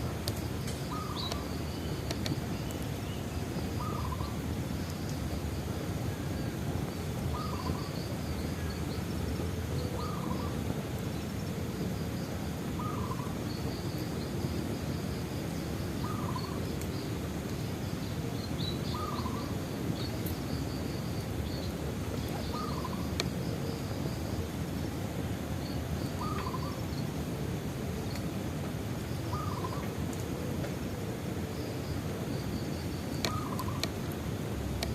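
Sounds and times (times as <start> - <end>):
fire crackle: 0.0 - 18.8, 19.9 - 34.9.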